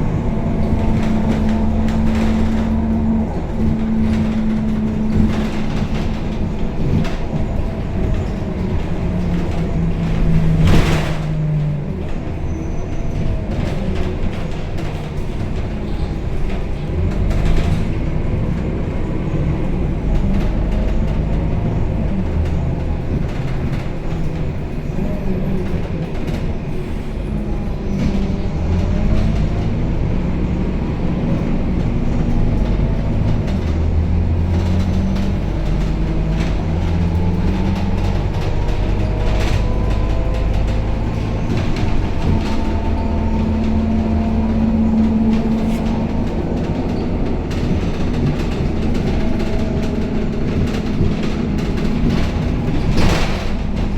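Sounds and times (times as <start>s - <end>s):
bus body rattles: 0.0s - 53.9s
bus diesel engine rumble: 0.0s - 53.9s.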